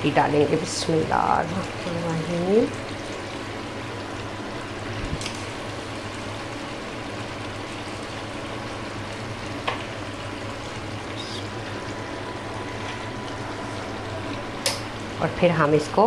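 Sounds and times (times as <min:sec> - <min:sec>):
sauce simmering and bubbling: 0:00.6 - 0:15.2.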